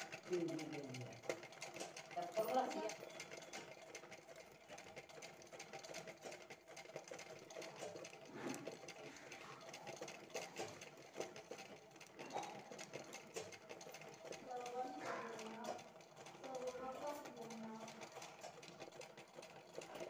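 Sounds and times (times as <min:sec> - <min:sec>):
sewing machine stitching: 0:00.0 - 0:20.0.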